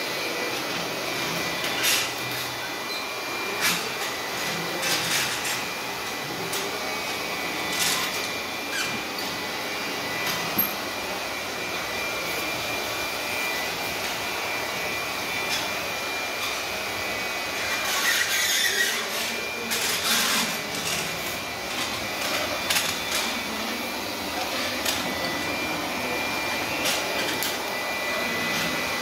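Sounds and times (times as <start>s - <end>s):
heavy floor roller rolling: 0.0s - 29.0s.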